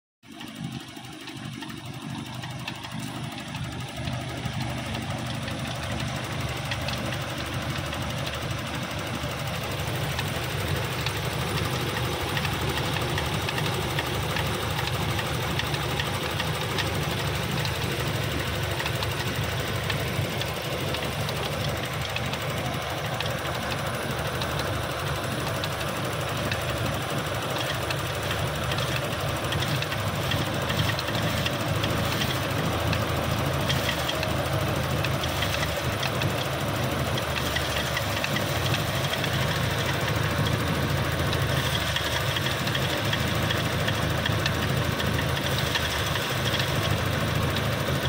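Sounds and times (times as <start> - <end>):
rough engine idling with ticking: 0.2 - 48.0.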